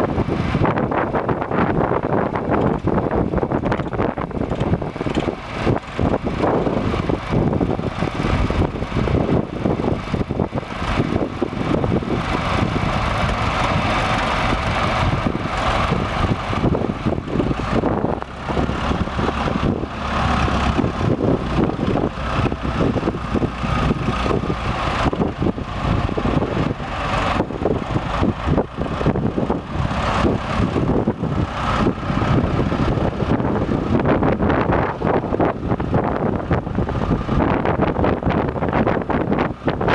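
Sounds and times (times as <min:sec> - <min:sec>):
tractor diesel engine running: 0:00.0 - 0:39.9
wind buffeting microphone: 0:00.0 - 0:39.9.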